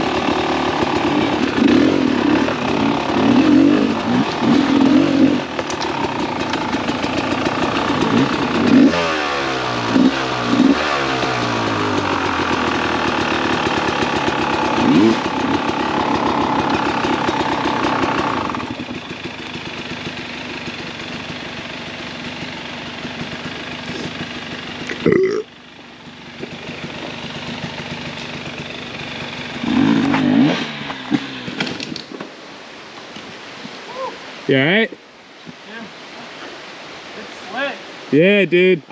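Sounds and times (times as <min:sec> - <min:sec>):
dirt bike engine running: 0:00.0 - 0:32.1.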